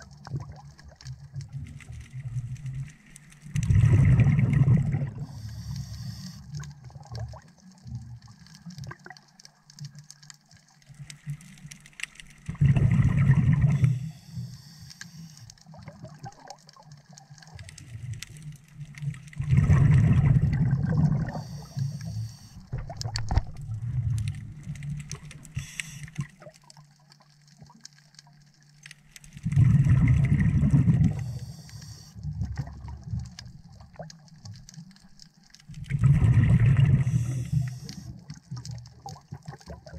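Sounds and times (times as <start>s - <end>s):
underwater exhaled bubbles burbling: 0.0s - 9.4s, 12.4s - 14.6s, 15.6s - 26.9s, 29.3s - 39.9s
quiet low rumble: 0.0s - 39.9s.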